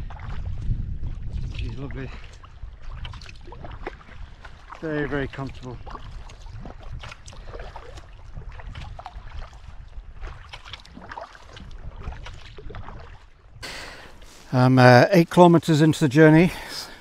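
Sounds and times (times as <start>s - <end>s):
wind rumble on microphone: 0.0s - 13.6s
kayak paddle splashing in water: 0.0s - 14.5s.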